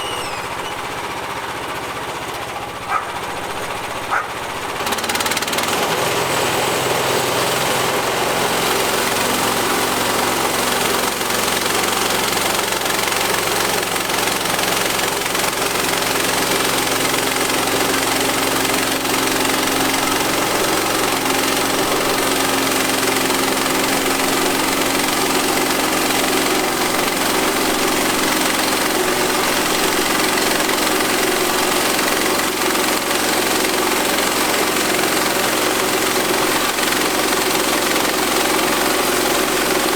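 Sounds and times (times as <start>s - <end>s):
band sawmill engine under load: 0.0s - 39.9s.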